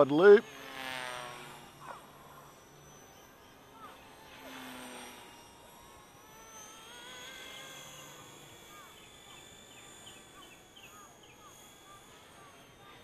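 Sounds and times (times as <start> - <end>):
faint rc helicopter whine: 0.0 - 13.0.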